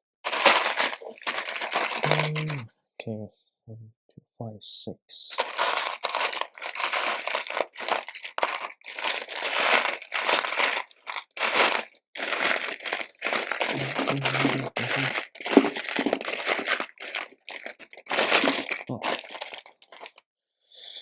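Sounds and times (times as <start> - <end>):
hands rummaging plastic pieces: 0.2 - 2.6, 5.3 - 20.2.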